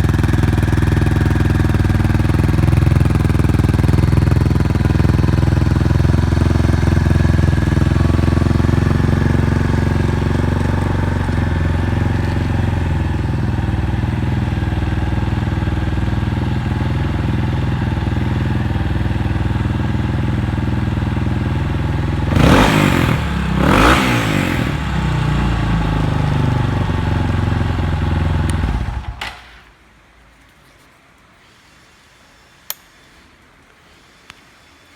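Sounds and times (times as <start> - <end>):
motorcycle engine idling: 0.0 - 29.1.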